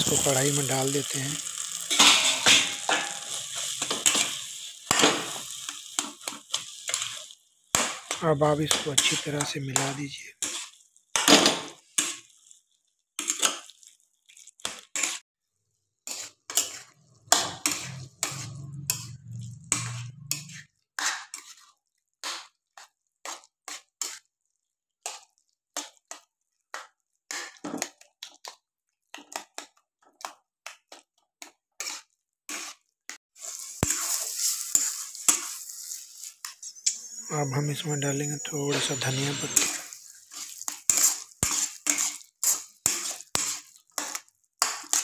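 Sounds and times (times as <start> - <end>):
spatula scraping a pan: 0.0 - 12.6, 13.2 - 15.2, 16.0 - 24.3, 31.7 - 45.0.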